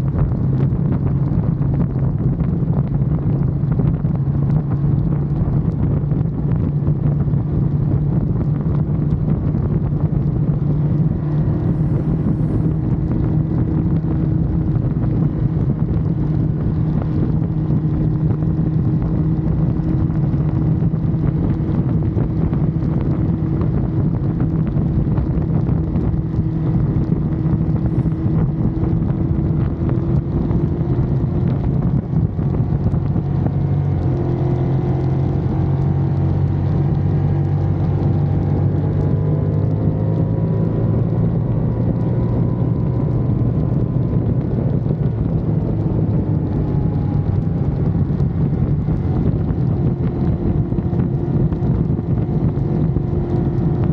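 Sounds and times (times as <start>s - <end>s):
motorcycle engine cruising: 0.0s - 53.9s
wind rushing over microphone: 0.0s - 53.9s.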